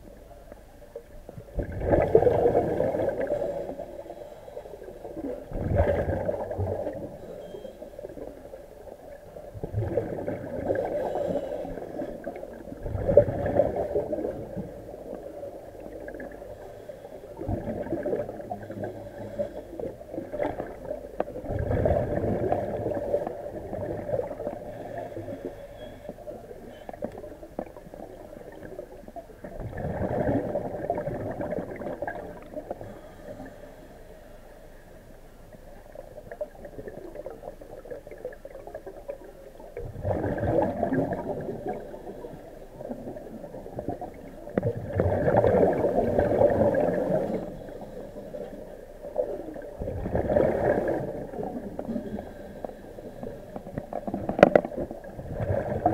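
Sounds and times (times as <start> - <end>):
exhaled air bubbling underwater: 0.0 - 55.9.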